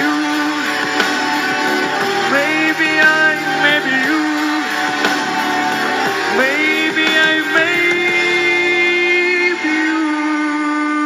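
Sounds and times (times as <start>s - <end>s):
instrumental backing music: 0.0s - 10.6s.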